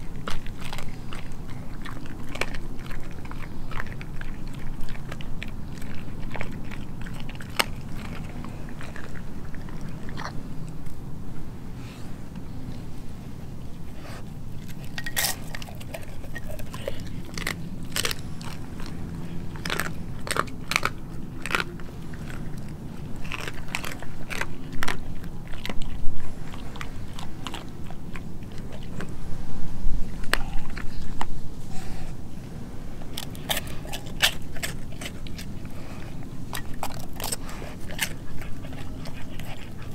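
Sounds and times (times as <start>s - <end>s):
dog crunching pork skin: 0.0s - 11.1s, 13.9s - 29.3s, 30.1s - 31.4s, 33.0s - 39.9s.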